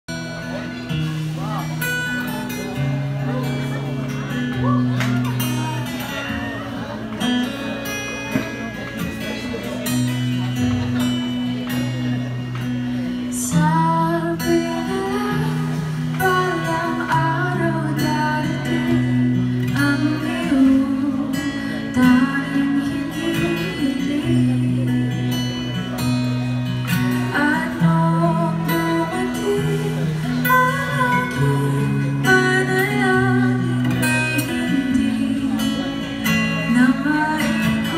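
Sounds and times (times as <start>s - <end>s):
acoustic guitar chords and melody: 0.1s - 37.9s.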